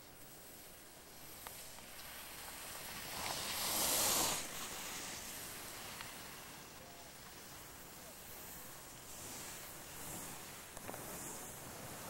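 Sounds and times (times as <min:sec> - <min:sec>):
skis hissing across snow: 0:00.0 - 0:12.0.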